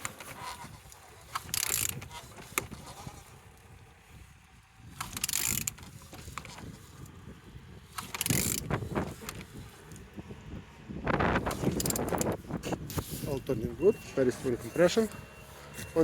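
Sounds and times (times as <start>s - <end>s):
engine ratcheting and grinding: 0.0s - 10.2s, 11.0s - 16.0s.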